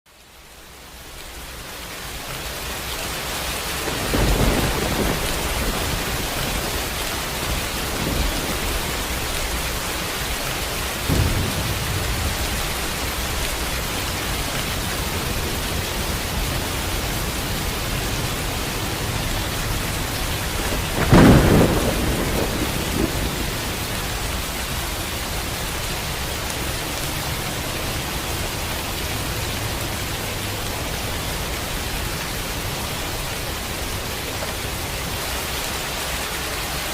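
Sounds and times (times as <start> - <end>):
steady rain: 0.1 - 36.9
thunder rumbling and cracking: 3.6 - 36.9.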